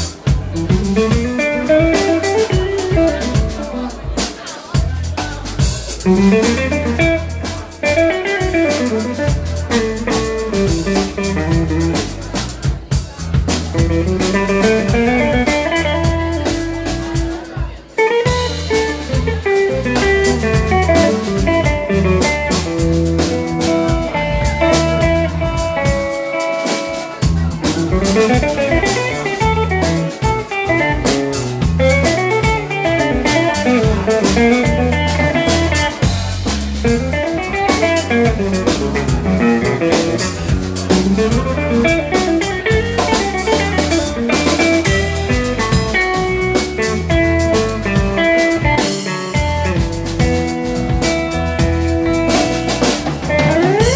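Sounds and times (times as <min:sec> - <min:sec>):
electric guitar lead lines: 0:00.0 - 0:04.2, 0:06.0 - 0:12.7, 0:13.7 - 0:53.9
drum kit: 0:00.0 - 0:53.9
electric bass: 0:00.0 - 0:53.9.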